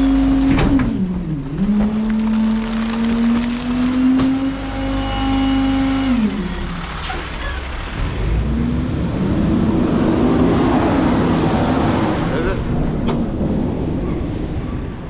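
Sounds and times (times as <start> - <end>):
diesel engine revving: 0.0 - 14.6
loud rumbling: 0.0 - 14.9.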